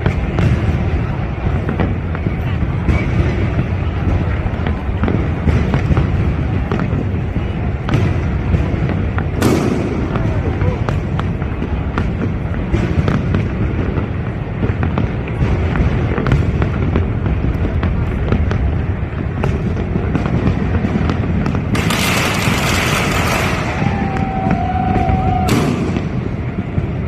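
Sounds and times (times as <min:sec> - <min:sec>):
fireworks booming and crackling: 0:00.0 - 0:27.0.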